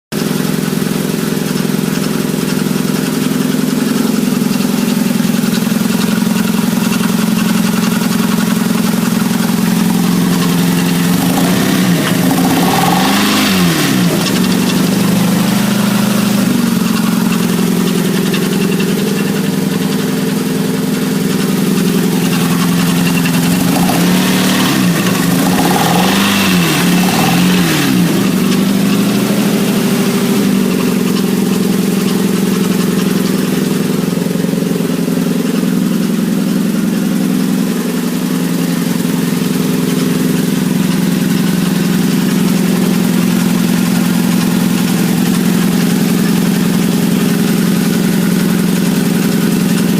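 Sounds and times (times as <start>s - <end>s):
car engine running with rattle: 0.1s - 49.9s.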